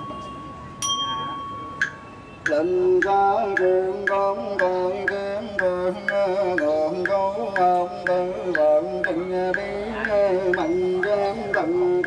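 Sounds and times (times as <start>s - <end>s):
sharp tapping beat: 1.8s - 12.0s.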